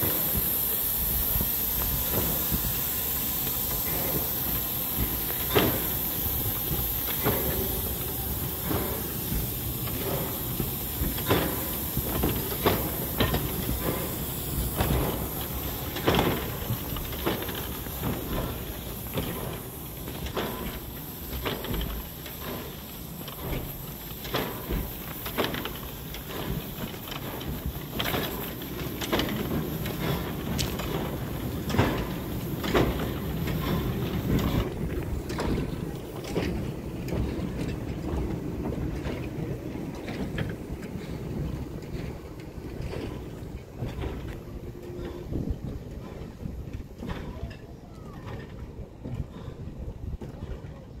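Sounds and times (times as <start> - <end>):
steam hissing: 0.0 - 51.0
steam locomotive chuffing: 0.0 - 51.0.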